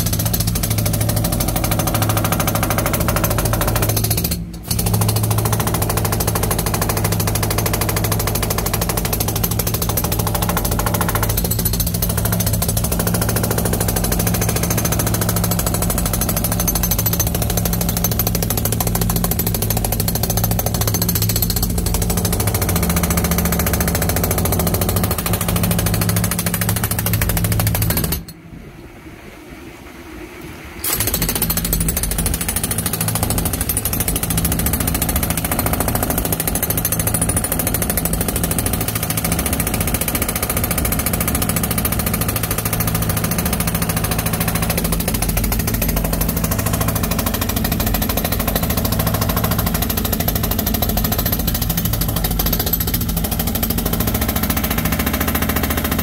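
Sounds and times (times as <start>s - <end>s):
jackhammer hammering concrete: 0.0s - 28.4s, 30.8s - 56.0s.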